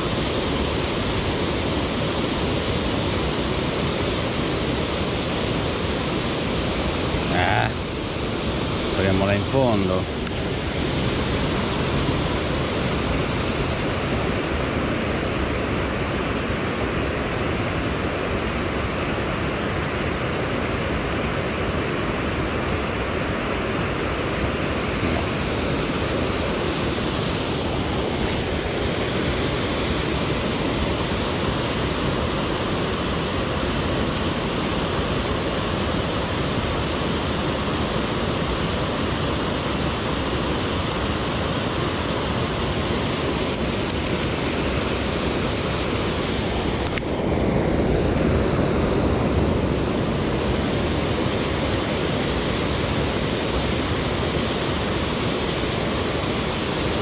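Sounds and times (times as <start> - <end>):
water rushing over a weir: 0.0 - 57.0.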